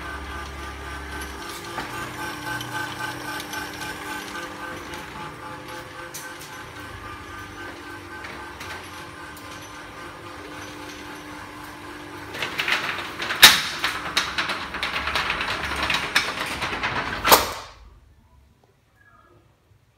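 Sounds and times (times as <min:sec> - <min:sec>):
roller shutter motor hum: 0:00.0 - 0:18.0
metal slats rattling: 0:01.0 - 0:17.9.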